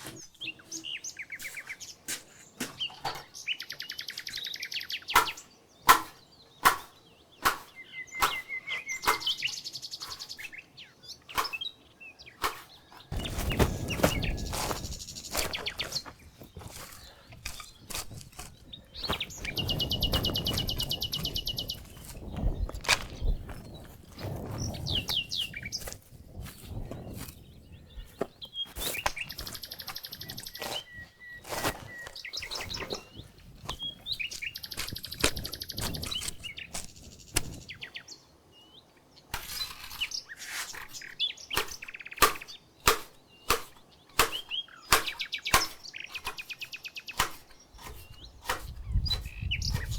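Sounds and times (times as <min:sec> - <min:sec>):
songbirds trilling and chirping: 0:00.0 - 0:49.9.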